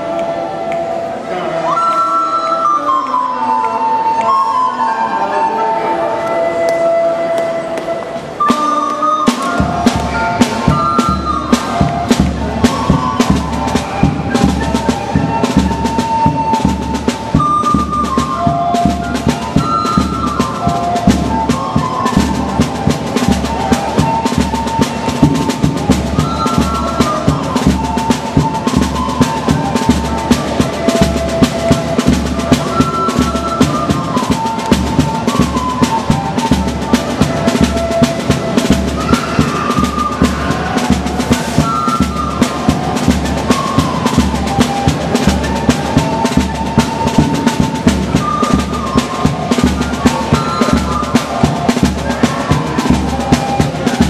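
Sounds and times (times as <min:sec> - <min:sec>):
recorders playing a melody: 0:00.0 - 0:54.0
band with steady drumming: 0:06.2 - 0:54.0.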